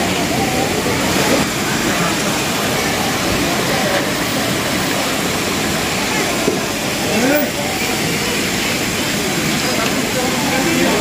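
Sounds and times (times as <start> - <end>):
indistinct chatter of people: 0.0 - 11.0.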